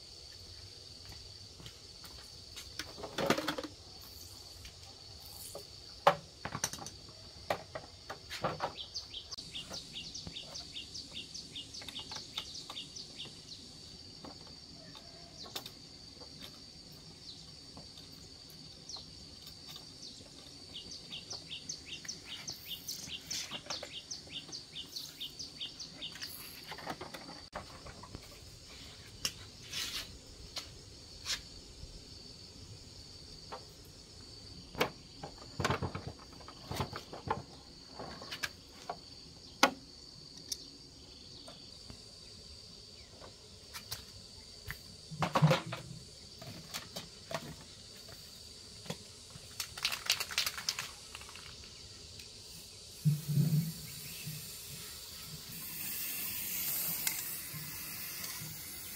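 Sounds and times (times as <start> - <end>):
high insect drone: 0.0 - 58.9.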